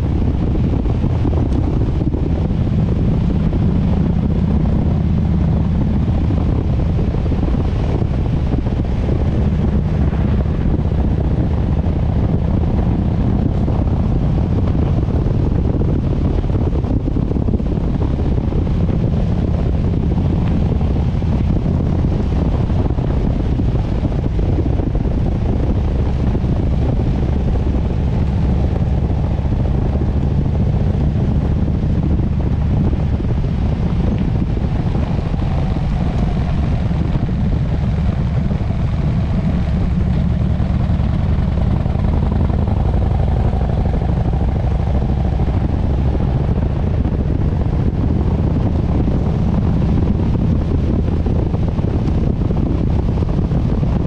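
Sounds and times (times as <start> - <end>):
motorcycle engine running: 0.0 - 54.0
wind on microphone: 0.0 - 54.0.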